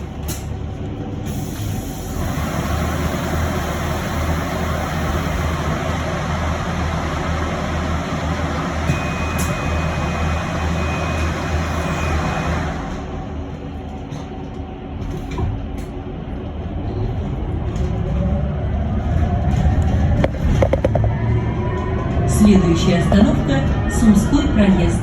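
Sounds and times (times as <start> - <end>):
road and tyre noise: 0.0 - 24.4.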